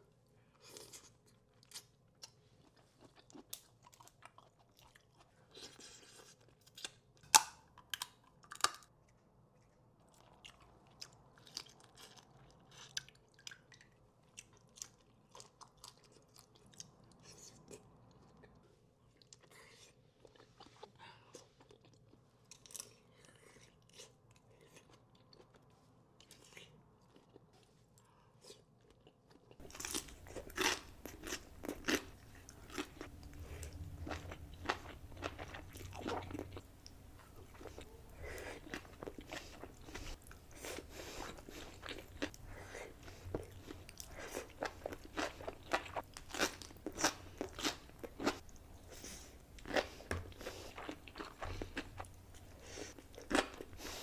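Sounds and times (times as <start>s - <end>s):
person chewing seafood: 0.5s - 54.0s.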